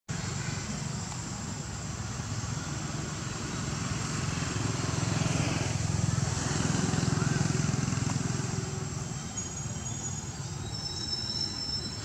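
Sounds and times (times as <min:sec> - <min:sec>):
engine running with low pulsing: 0:00.1 - 0:10.4.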